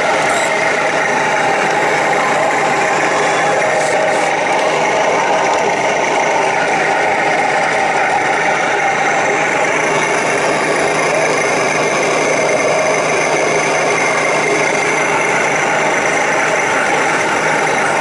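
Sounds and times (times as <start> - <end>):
electric drive motors whining: 0.0 - 18.0
toy tank engine drone: 0.0 - 18.0.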